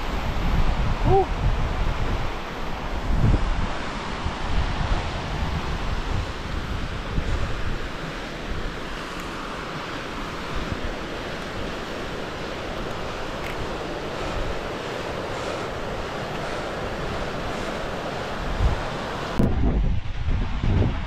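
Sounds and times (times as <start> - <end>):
wind blowing over microphone: 0.0 - 21.0.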